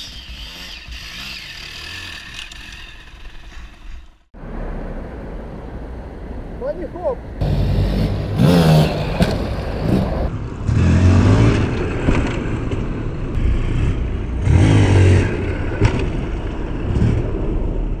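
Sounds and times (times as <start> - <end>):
motorcycle engine revving: 0.0 - 4.3, 7.4 - 18.0.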